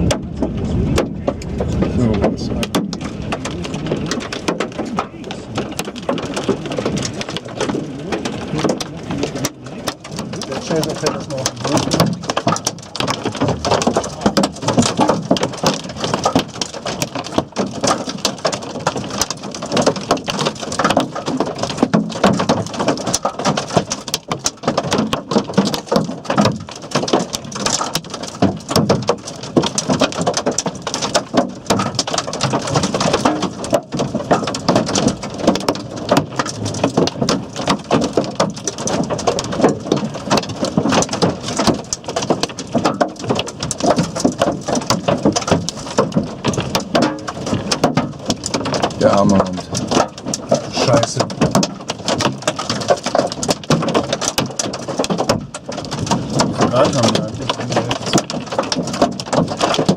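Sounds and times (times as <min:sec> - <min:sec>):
hailstones hitting: 0:00.0 - 0:59.9
heavy rain: 0:00.0 - 0:59.9.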